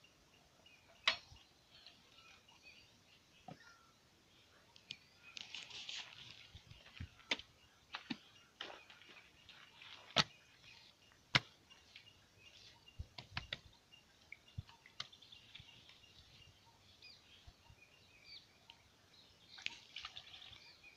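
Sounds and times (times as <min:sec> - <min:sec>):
birds chirping faintly: 0:00.0 - 0:20.9.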